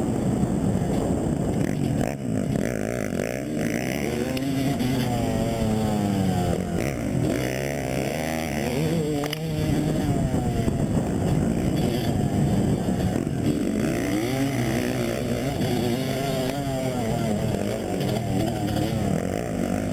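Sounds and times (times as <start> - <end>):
dirt bike engines revving: 0.0 - 19.9.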